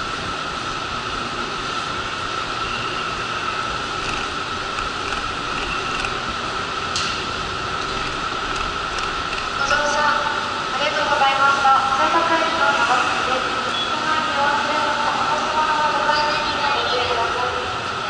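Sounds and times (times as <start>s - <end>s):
diesel railcar idling: 0.0s - 15.6s
constant high whine: 0.0s - 18.0s.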